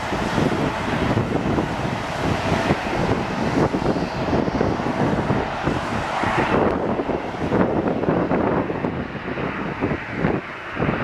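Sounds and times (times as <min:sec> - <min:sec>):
jet engines roaring: 0:00.0 - 0:11.0
wind noise on microphone: 0:00.0 - 0:11.0.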